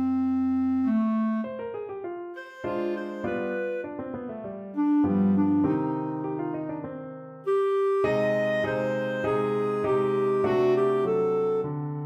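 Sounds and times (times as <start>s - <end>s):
clarinet melody: 0.0s - 12.0s
piano chords: 0.0s - 12.0s.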